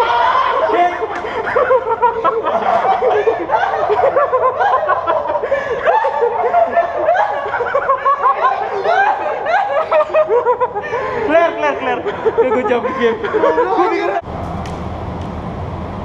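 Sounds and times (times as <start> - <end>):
people laughing: 0.0 - 14.2.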